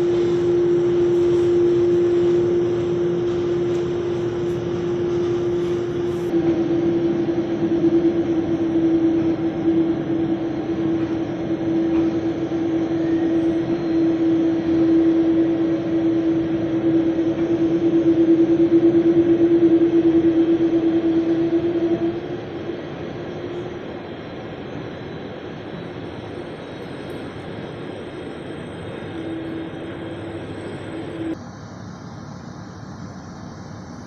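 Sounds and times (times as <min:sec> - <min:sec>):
jet engines humming and rushing: 0:00.0 - 0:34.0.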